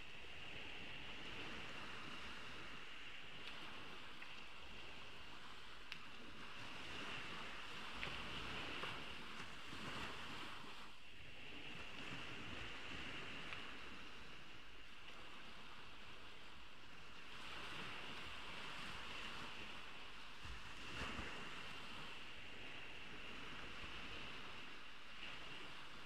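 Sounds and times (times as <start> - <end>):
ocean waves washing onto beach: 0.0 - 26.0.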